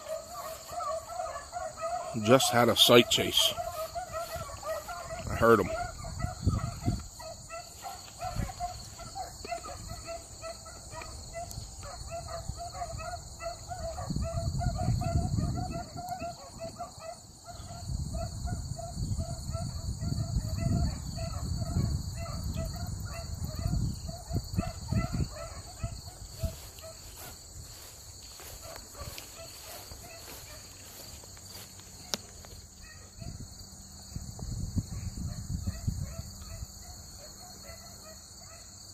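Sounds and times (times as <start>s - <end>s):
hounds barking: 0.0s - 33.5s, 34.9s - 38.9s
wind rumbling on microphone: 3.6s - 10.4s, 11.0s - 37.2s.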